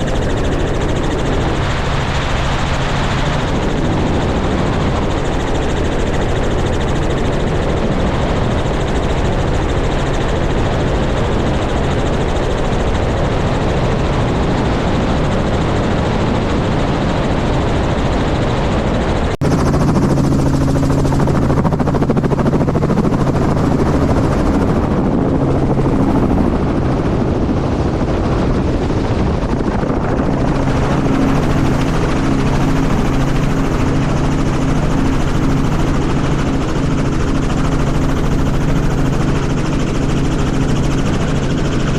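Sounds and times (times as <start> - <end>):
helicopter running: 0.0 - 41.9.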